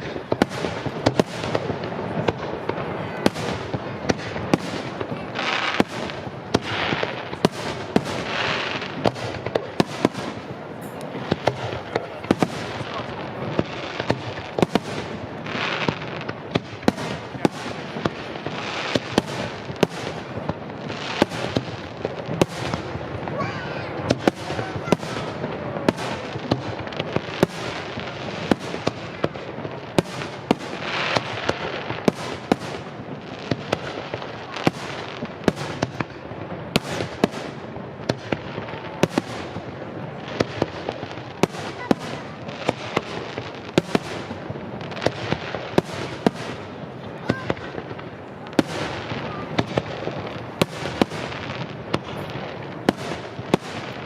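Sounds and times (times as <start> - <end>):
fireworks bursting with sharp bangs: 0.0 - 54.0
fireworks rumble and crackle: 0.0 - 54.0.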